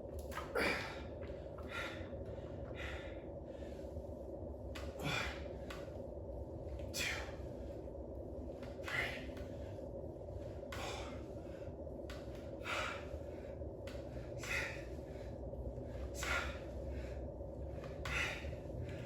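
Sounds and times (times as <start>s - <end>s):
steady low hum: 0.0s - 19.0s
man breathing hard: 0.4s - 6.0s, 6.6s - 19.0s.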